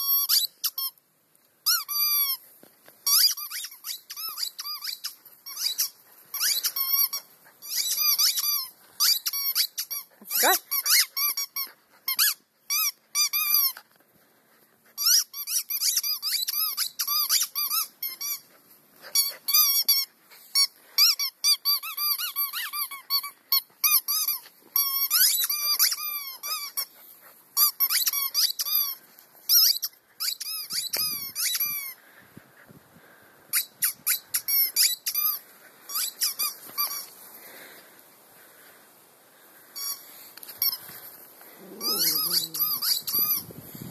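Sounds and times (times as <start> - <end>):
squeaky toy squeaks: 0.0 - 1.0, 1.6 - 2.4, 3.0 - 13.8, 15.0 - 26.9, 27.6 - 32.0, 33.5 - 37.1, 39.8 - 40.8, 41.7 - 43.6.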